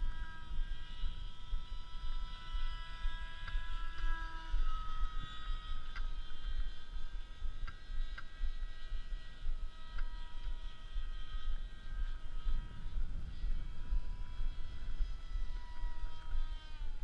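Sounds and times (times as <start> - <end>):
model plane motor whining: 0.0 - 17.0
wind rumble on microphone: 0.0 - 17.0.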